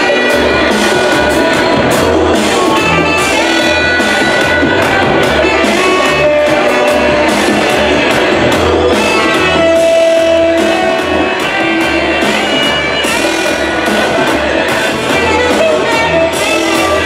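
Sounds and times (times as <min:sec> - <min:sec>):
electronic dance music: 0:00.0 - 0:17.0
live drum kit: 0:00.0 - 0:17.0.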